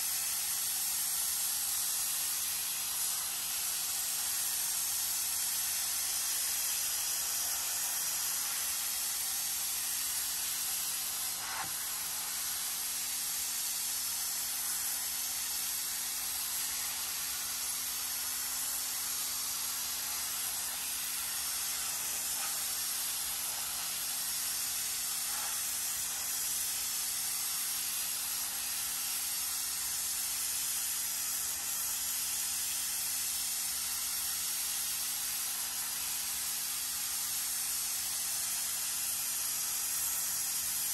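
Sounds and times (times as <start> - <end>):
pressure washer spray hissing: 0.0 - 40.9.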